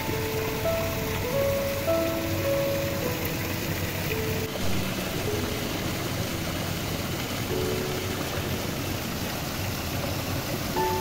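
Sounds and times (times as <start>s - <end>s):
fountain splashing into a pond: 0.0s - 11.0s.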